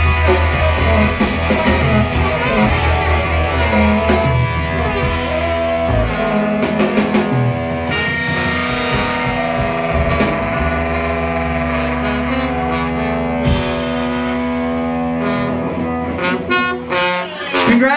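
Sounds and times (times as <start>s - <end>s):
live rock band playing: 0.0s - 17.9s.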